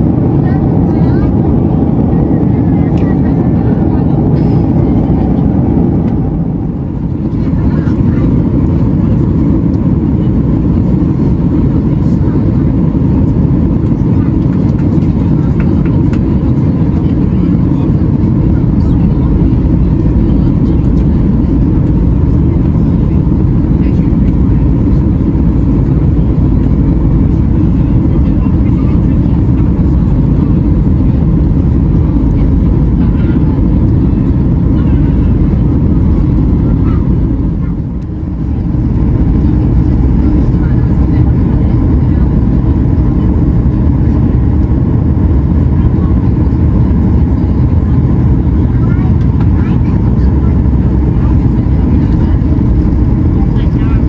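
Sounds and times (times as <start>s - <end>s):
airliner engines droning: 0.0s - 54.0s.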